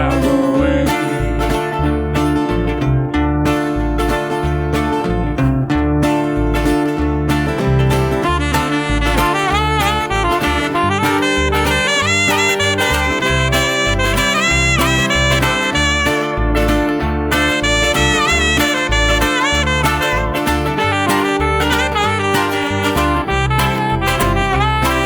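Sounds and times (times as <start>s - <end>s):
lead melody with bending notes: 0.0s - 25.0s
strummed chords: 0.0s - 25.0s
walking bass: 0.0s - 25.0s.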